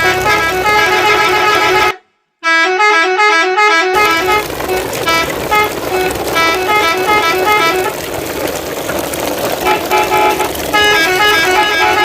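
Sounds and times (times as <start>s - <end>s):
horn playing a melody: 0.0s - 8.0s, 9.6s - 12.0s.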